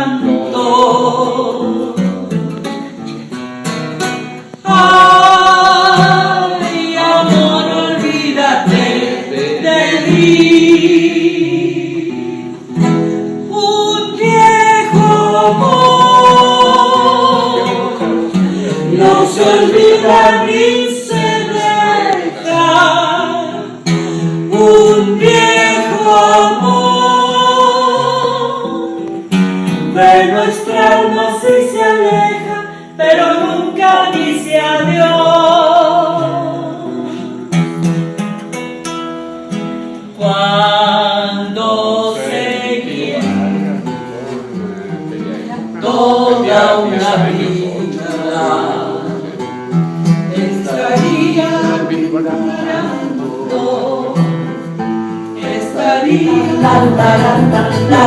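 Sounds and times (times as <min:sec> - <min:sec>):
woman singing: 0:00.0 - 0:02.3, 0:04.4 - 0:12.4, 0:13.5 - 0:37.4, 0:40.2 - 0:43.3, 0:45.5 - 0:49.3, 0:50.3 - 0:54.4, 0:55.4 - 0:58.0
acoustic guitar: 0:00.0 - 0:58.0.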